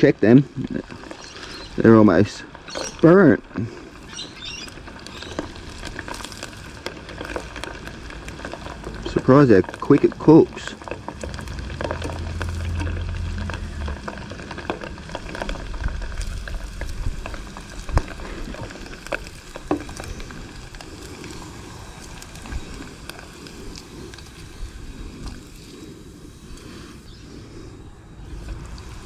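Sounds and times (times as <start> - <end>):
oil sizzling and crackling: 0.0 - 29.0.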